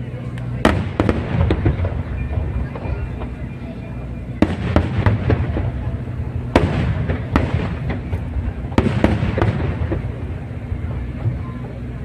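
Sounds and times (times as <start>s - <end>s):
low rumble of bursts: 0.0s - 12.0s
fireworks bangs: 0.6s - 12.0s.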